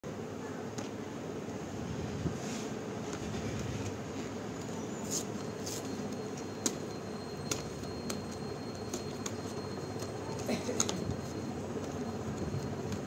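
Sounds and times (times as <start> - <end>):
steady background hum: 0.1 - 13.0.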